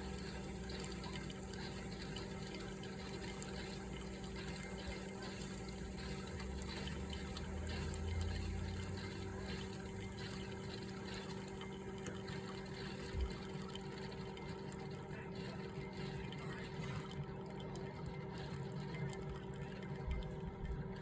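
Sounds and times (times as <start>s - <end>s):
water gurgling: 0.0s - 21.0s
water pump humming: 0.0s - 21.0s.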